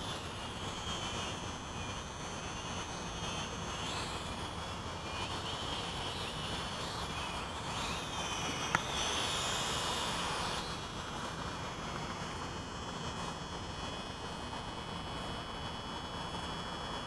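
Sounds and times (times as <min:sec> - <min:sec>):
quadcopter motors whining: 0:00.0 - 0:16.6.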